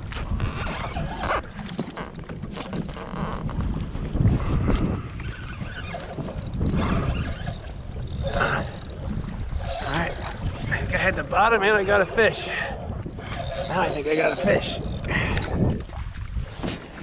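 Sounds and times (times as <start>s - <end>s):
knocks and clicks from kayak: 0.0s - 11.4s, 12.5s - 17.0s
water sloshing: 0.0s - 17.0s
wind buffeting microphone: 0.0s - 17.0s.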